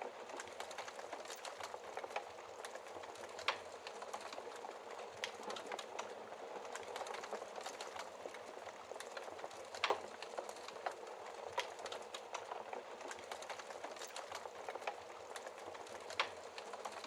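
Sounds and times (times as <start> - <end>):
wood fire crackling: 0.2 - 17.0.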